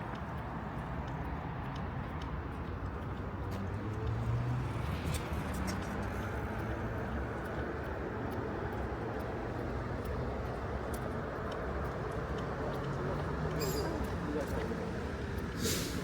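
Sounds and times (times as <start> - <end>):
cars on a busy street: 0.0 - 16.0.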